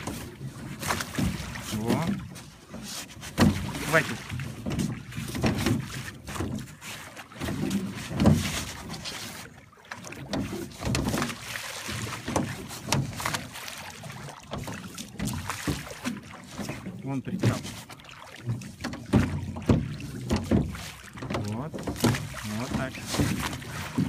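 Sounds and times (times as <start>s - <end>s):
oars knocking against boat: 0.0s - 24.0s
oars splashing in water: 0.0s - 24.0s.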